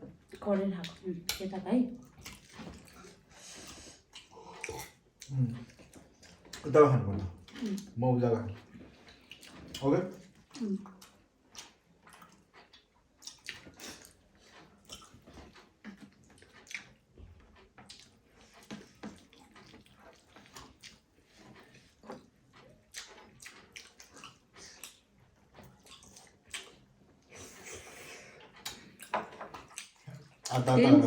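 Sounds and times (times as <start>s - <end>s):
wet chewing and slurping: 0.2s - 8.0s, 8.6s - 30.8s.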